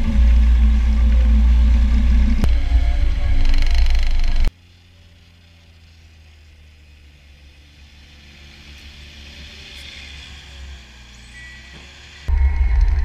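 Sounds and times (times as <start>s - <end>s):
snowcat diesel engine and tracks: 0.0s - 13.0s.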